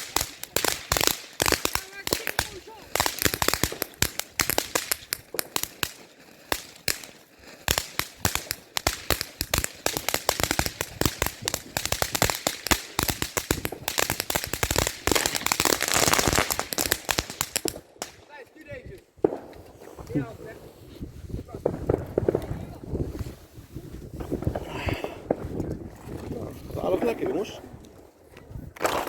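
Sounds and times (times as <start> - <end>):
fireworks cracking and banging: 0.0 - 26.0, 26.7 - 27.6, 28.7 - 29.0.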